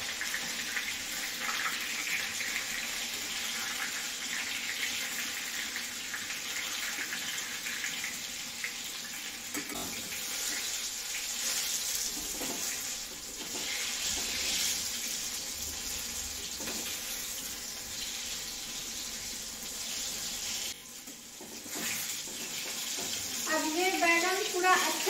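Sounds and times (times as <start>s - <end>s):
slices sizzling in hot oil: 0.0s - 25.0s.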